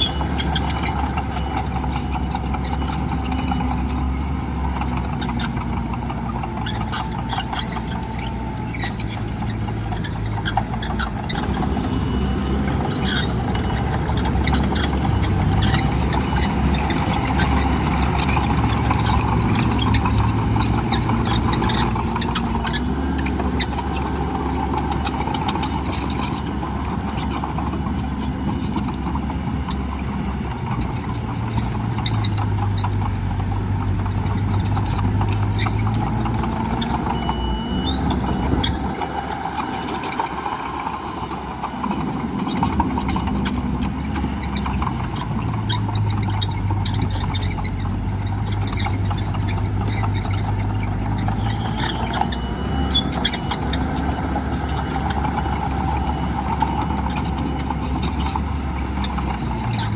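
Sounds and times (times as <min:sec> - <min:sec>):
diesel earthmoving machinery: 0:00.0 - 0:59.9.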